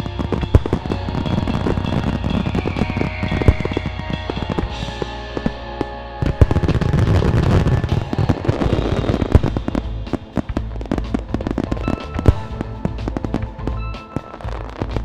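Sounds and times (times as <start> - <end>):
background music: 0.0 - 15.0
fireworks banging and crackling: 0.0 - 15.0.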